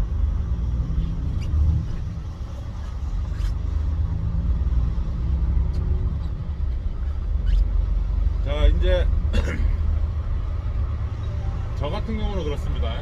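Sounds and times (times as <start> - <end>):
road vehicle rumbling: 0.0 - 13.0.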